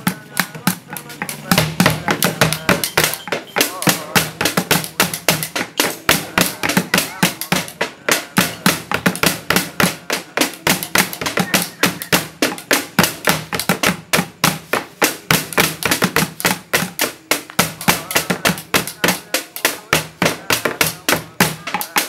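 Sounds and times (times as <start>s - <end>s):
sticks beating bucket and jerrycan: 0.0s - 22.0s.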